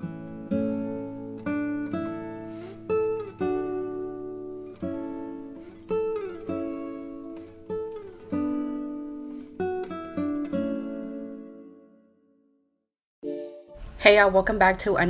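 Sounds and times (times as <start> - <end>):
acoustic guitar strumming: 0.0 - 12.2.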